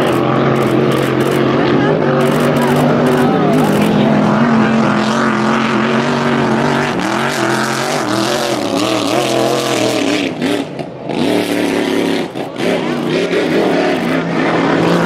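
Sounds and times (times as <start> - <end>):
racing boat engine flat out: 0.0 - 15.0.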